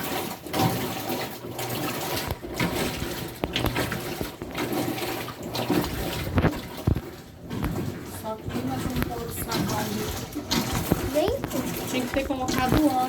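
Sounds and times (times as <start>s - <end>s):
water sloshing in washing machine: 0.0s - 13.0s.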